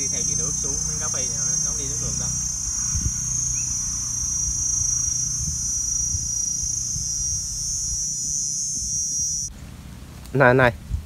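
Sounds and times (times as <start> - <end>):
insects droning: 0.0 - 10.6
low irregular rumble: 0.0 - 11.0.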